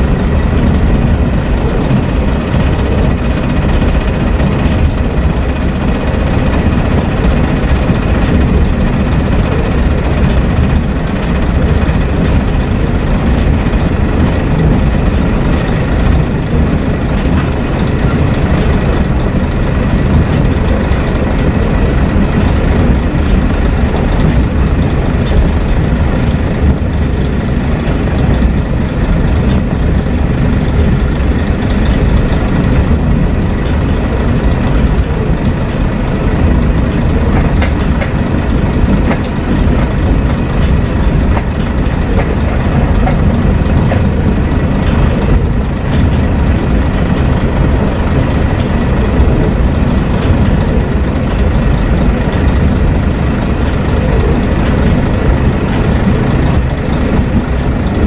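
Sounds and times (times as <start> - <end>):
train engine and wheels on rails: 0.0 - 58.0.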